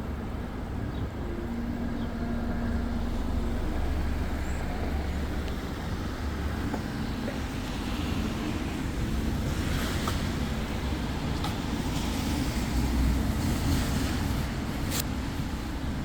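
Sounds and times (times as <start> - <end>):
road and traffic rumble: 0.0 - 16.0
vehicle humming tone: 0.0 - 16.0.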